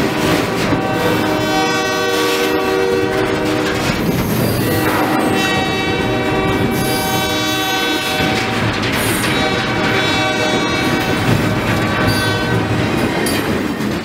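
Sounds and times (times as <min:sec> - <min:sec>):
train horn long blasts: 0:00.0 - 0:13.0
freight train rumbling and rattling: 0:00.0 - 0:14.0.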